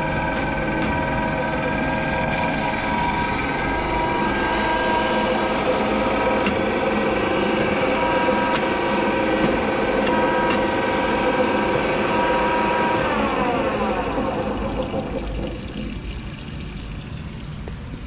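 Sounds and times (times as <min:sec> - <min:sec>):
drill press motor whining: 0:00.0 - 0:15.4.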